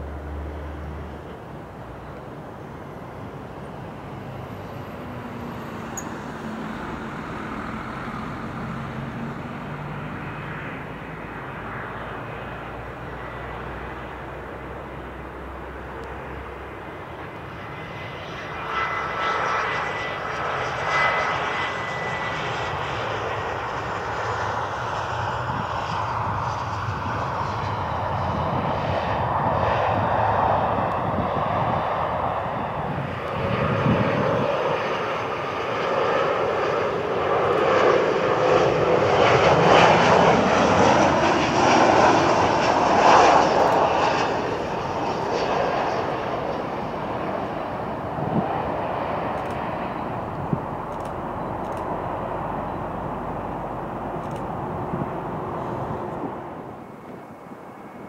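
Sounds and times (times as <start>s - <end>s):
high engine whine: 0.0s - 58.0s
jet airliner landing: 0.0s - 58.0s.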